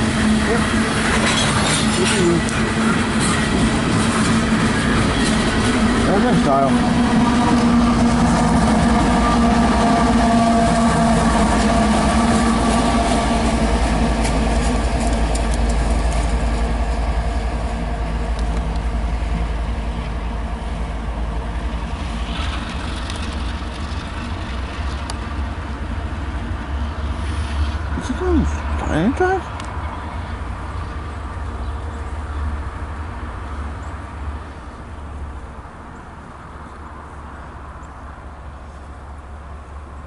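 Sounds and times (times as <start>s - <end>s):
diesel locomotive engine running: 0.0s - 40.0s
steady low rumble: 0.0s - 40.0s
train wheels rolling on rails: 0.0s - 40.0s.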